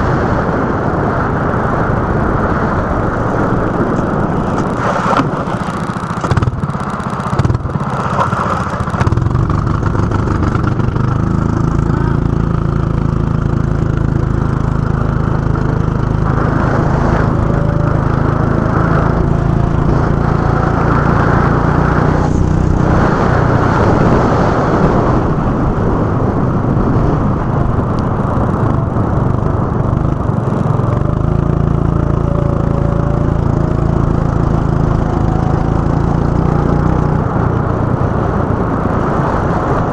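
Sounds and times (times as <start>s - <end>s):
go-kart engine buzzing: 0.0s - 39.9s.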